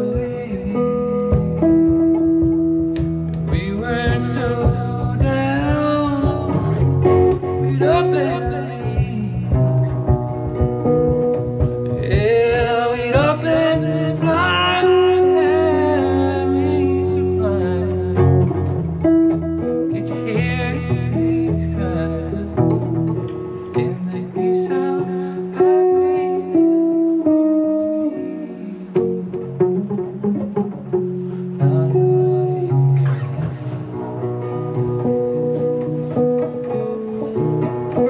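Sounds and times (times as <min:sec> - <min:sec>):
acoustic guitar playing: 0:00.0 - 0:38.0.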